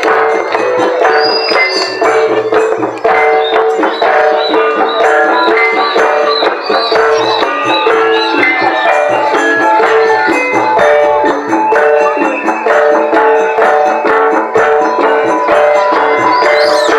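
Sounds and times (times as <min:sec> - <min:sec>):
ringing pitched percussion notes: 0:00.0 - 0:16.9
steady struck drum beat: 0:00.0 - 0:16.9.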